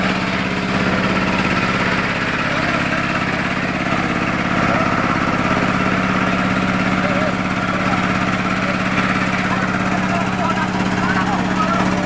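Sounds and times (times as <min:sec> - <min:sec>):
boat engine pulsing: 0:00.0 - 0:12.0.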